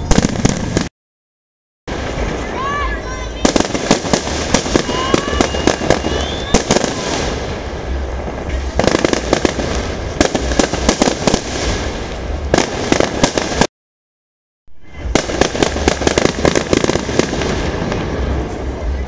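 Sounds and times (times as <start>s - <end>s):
fireworks crackling and rumbling: 0.0s - 0.9s, 1.9s - 13.7s, 14.8s - 19.0s
sharp firework bangs: 0.0s - 0.9s, 3.4s - 13.7s, 14.8s - 19.0s.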